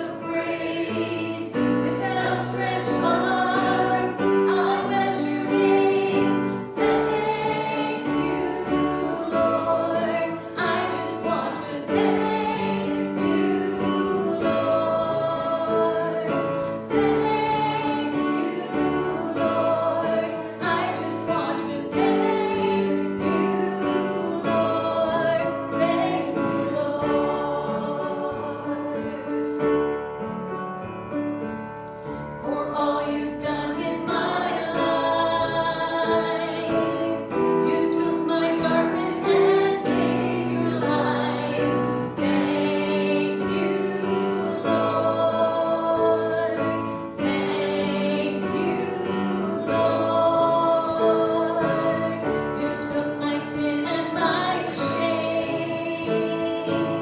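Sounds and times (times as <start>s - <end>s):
group singing a gospel hymn: 0.0s - 29.9s, 32.0s - 57.0s.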